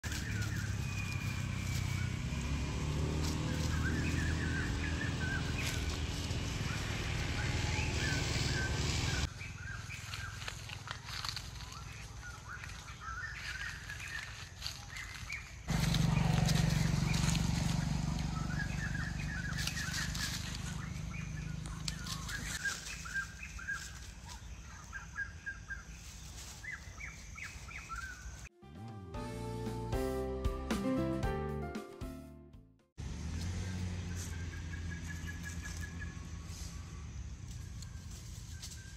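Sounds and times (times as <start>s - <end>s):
small birds chirping: 0.0s - 28.5s, 33.2s - 38.9s.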